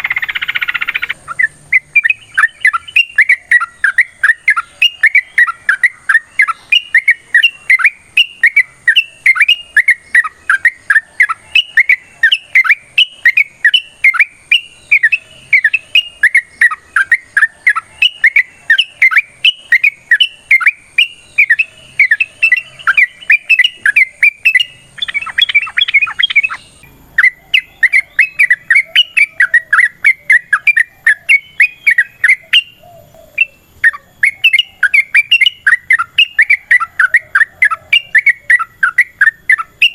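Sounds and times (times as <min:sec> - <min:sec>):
bird rapid chirping: 0:00.0 - 0:39.9.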